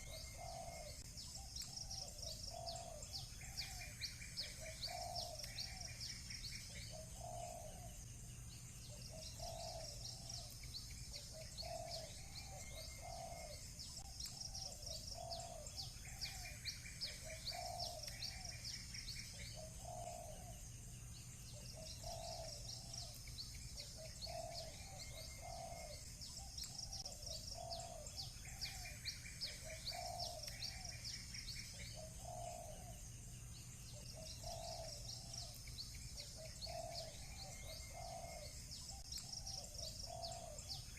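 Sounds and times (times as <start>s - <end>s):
doves cooing: 0.0s - 8.0s, 8.9s - 20.7s, 21.5s - 33.1s, 33.9s - 40.9s
small birds chirping and trilling: 0.0s - 40.9s.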